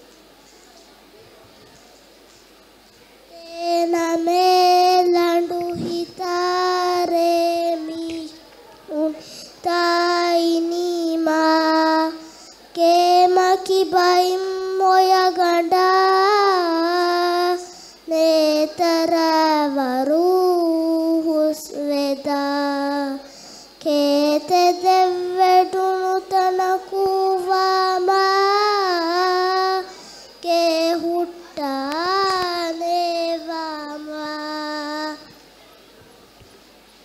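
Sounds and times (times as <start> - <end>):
girl singing unaccompanied: 3.3 - 35.4.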